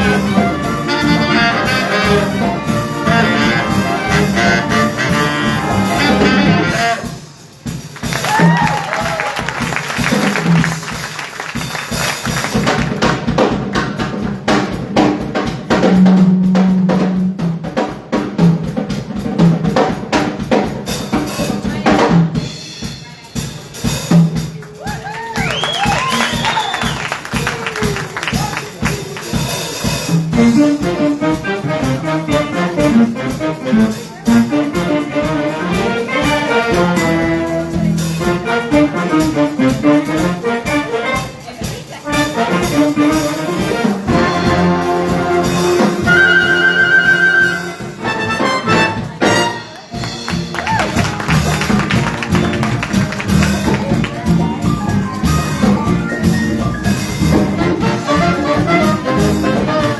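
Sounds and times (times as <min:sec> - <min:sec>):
big band jazz playing: 0:00.0 - 0:59.9.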